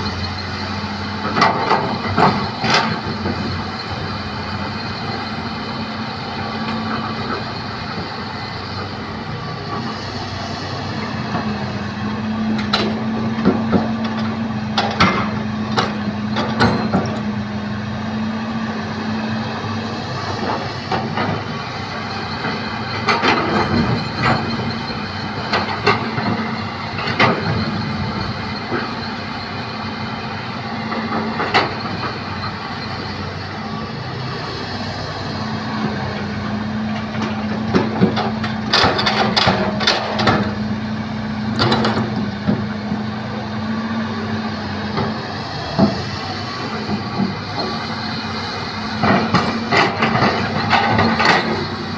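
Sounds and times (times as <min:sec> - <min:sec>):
diesel engine running: 0:00.0 - 0:51.9
excavator knocks and clanks: 0:00.0 - 0:51.9.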